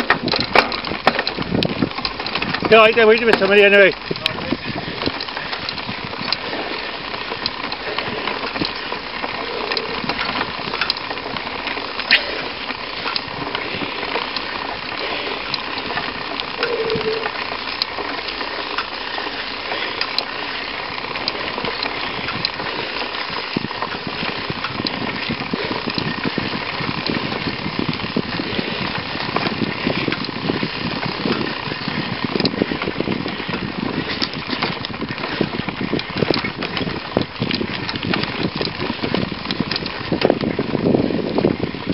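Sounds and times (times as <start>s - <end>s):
bike rattling: 0.0s - 41.9s
bike tyres crackling on dirt: 0.0s - 41.9s.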